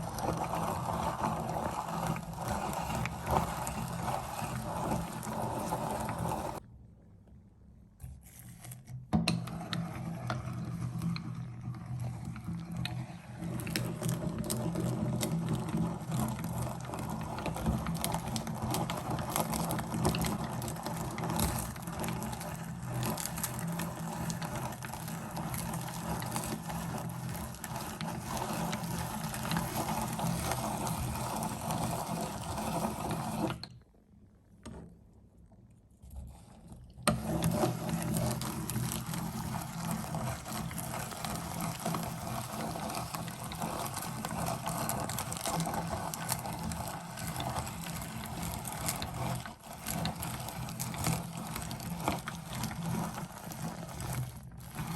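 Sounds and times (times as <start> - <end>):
crackle and squish of grinding: 0.0 - 6.6, 8.0 - 33.9, 35.5 - 54.9
meat grinder motor hum: 0.0 - 6.6, 9.4 - 33.7, 37.0 - 54.9.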